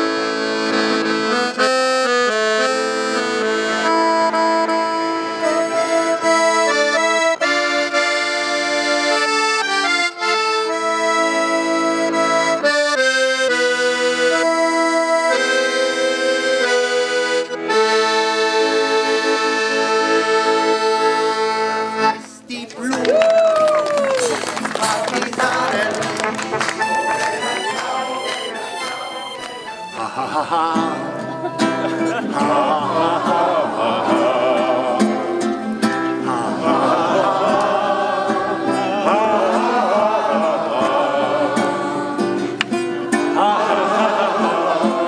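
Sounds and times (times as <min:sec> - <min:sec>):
instrumental folk music: 0:00.0 - 0:45.0.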